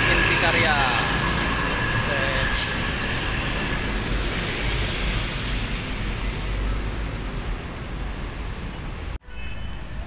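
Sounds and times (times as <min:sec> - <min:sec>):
heavy road traffic rumble: 0:00.0 - 0:10.0.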